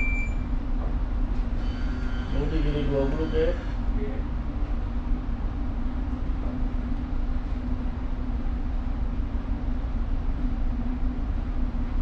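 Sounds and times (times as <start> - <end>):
ship machinery rumbling and humming: 0.0 - 12.0.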